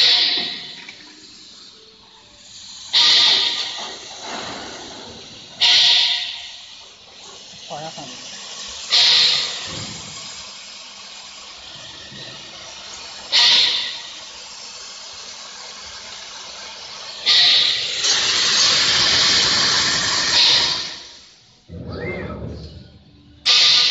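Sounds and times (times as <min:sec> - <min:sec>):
compressed air hissing: 0:00.0 - 0:21.7, 0:23.4 - 0:23.9.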